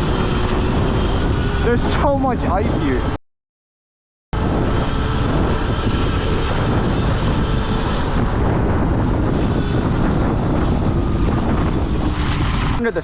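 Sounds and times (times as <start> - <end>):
electric dirt bike riding noise: 0.0 - 3.2, 4.4 - 13.0
wind rushing on microphone: 0.0 - 3.2, 4.4 - 13.0.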